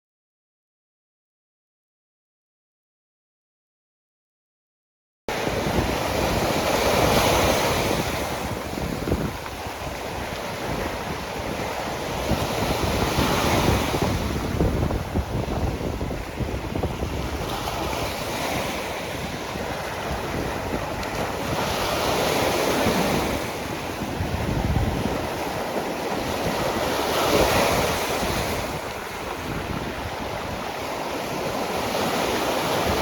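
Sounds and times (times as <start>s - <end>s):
waves washing onto shore: 5.3s - 33.0s
wind buffeting microphone: 5.3s - 33.0s.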